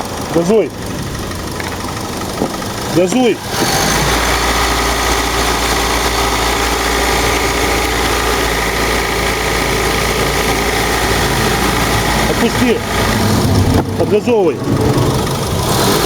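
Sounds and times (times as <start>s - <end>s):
car engine at raised revs: 0.0s - 16.0s.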